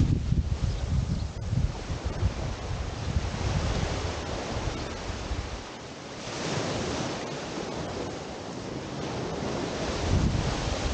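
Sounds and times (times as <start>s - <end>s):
waves washing up beach: 0.0s - 10.9s
wind buffeting microphone: 0.0s - 10.9s.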